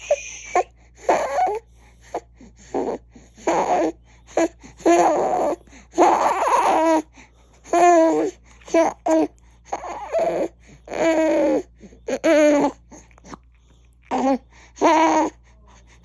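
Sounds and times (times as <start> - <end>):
infant crying and whimpering: 0.0 - 13.4, 14.1 - 15.6
infant gasping breaths: 0.0 - 16.0.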